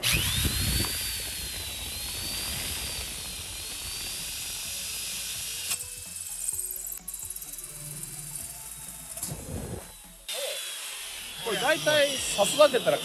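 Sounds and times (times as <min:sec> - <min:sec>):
drill cutting through steel plate: 0:00.0 - 0:13.0.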